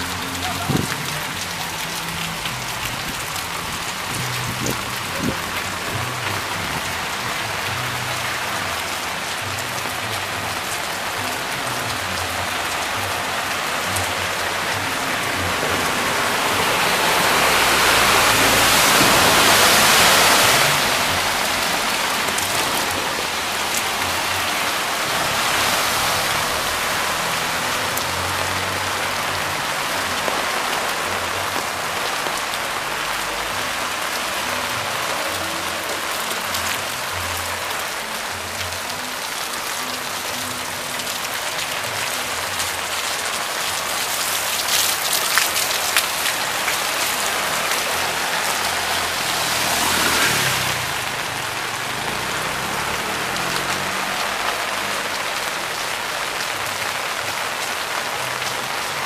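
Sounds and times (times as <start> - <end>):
heavy rain pouring: 0.0 - 59.0
rushing water: 0.0 - 59.0.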